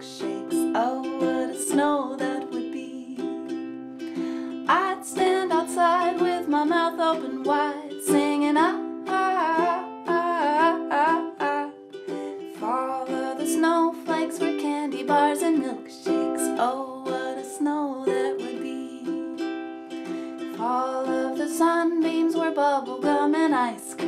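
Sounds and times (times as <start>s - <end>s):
ukulele strumming: 0.0s - 24.0s
woman singing: 0.0s - 24.0s.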